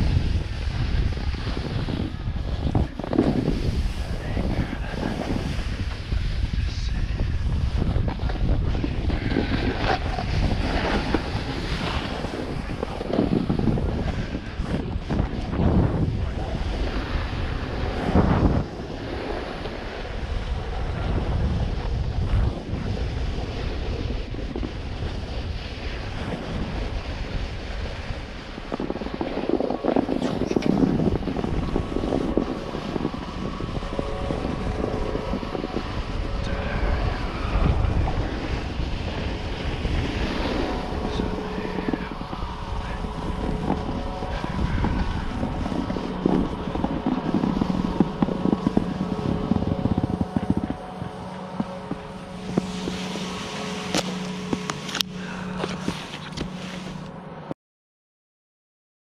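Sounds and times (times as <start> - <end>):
snowboard scraping over snow: 0.0 - 57.1
wind buffeting microphone: 0.0 - 57.2.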